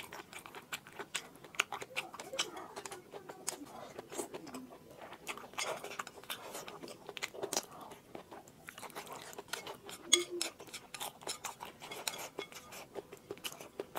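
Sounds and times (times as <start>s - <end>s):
wet chewing and lip smacks: 0.0s - 13.9s.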